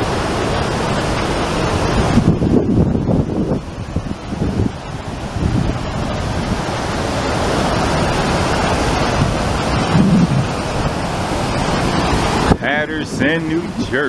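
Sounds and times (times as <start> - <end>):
waterfall rushing: 0.0 - 14.0
wind buffeting microphone: 1.7 - 13.0.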